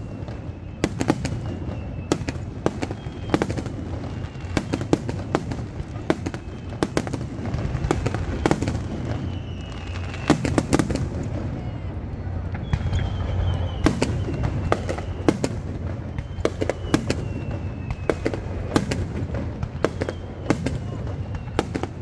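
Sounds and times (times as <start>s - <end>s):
fireworks bursting with sharp bangs: 0.0s - 22.0s.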